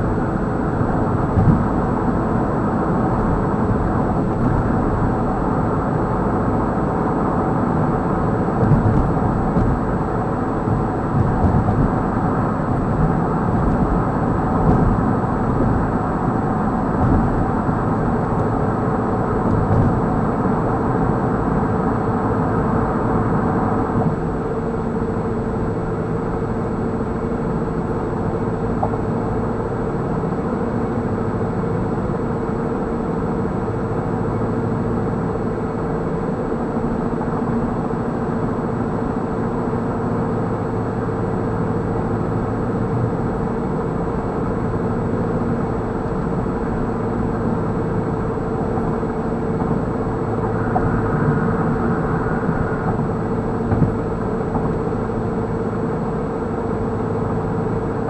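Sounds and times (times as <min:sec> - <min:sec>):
tyre and road noise: 0:00.0 - 0:28.2, 0:32.7 - 0:58.0.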